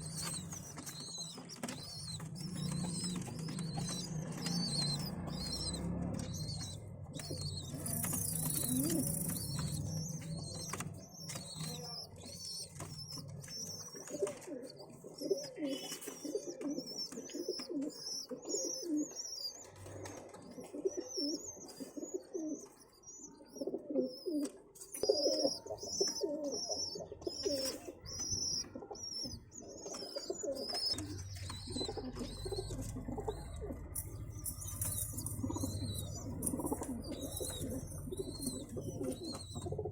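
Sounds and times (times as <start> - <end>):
squabs squeaking chirps: 0.0 - 19.8, 20.8 - 39.9
pigeons cooing: 0.0 - 39.9.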